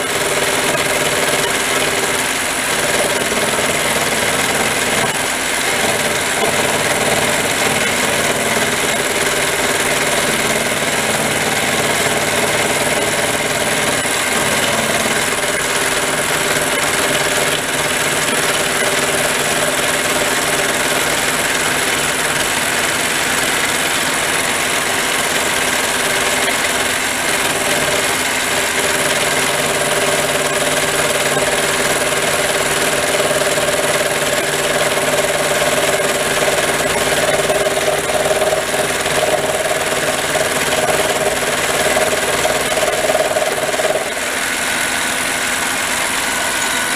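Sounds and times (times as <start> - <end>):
lathe motor and gear whine: 0.0 - 46.9.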